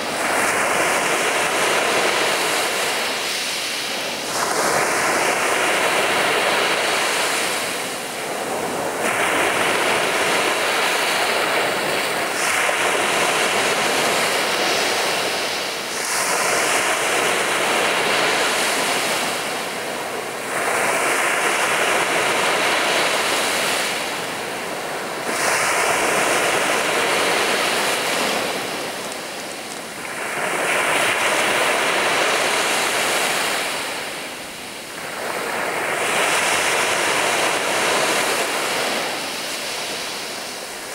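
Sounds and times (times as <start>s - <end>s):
surf breaking on a beach: 0.0s - 40.9s.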